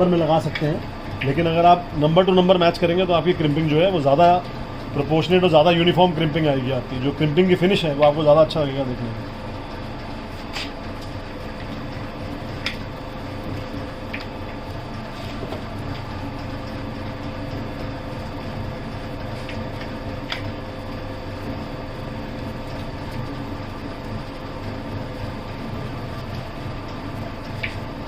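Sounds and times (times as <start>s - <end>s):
hydraulic power unit humming: 0.0s - 28.0s.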